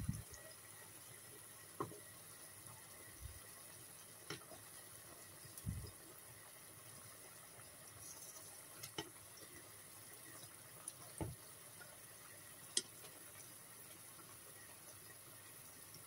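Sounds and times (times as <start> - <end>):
water boiling in saucepan: 0.0 - 16.0.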